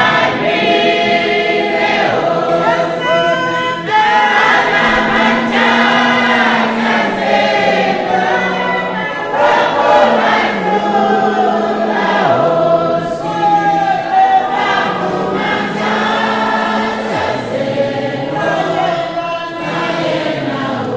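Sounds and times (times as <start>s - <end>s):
choir singing: 0.0s - 20.9s.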